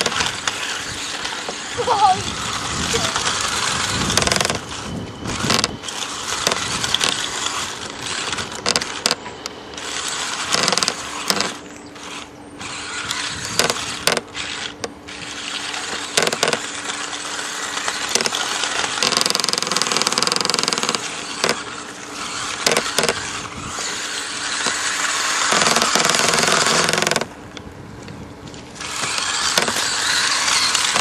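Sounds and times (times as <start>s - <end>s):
remote-control car motor whirring: 0.0s - 27.4s, 28.5s - 31.0s
steady hum: 0.0s - 31.0s.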